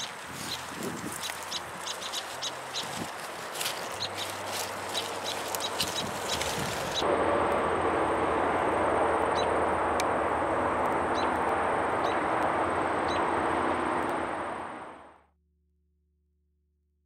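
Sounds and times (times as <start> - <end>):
steady rushing outdoor noise: 0.0 - 15.2.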